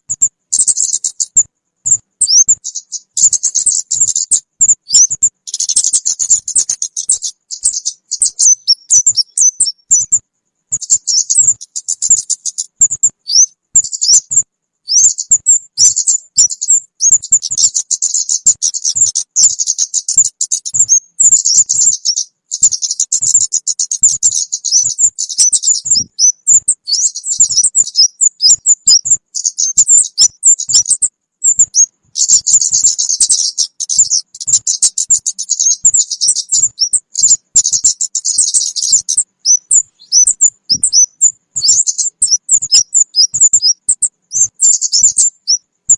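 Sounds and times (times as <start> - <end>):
high-pitched bird chirps and twittering: 0.0 - 45.9.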